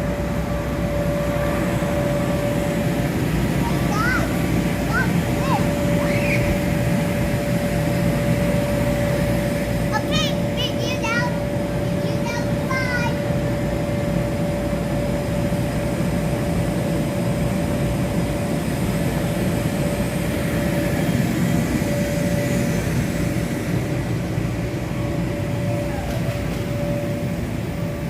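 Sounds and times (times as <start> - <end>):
air blowers droning: 0.0 - 28.0.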